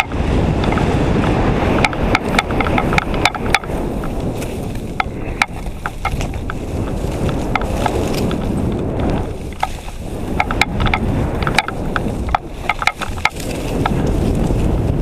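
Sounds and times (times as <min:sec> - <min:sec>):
sharp clicks and rattles: 0:00.0 - 0:14.8
skis running through snow: 0:00.0 - 0:15.0
wind buffeting microphone: 0:00.0 - 0:15.0.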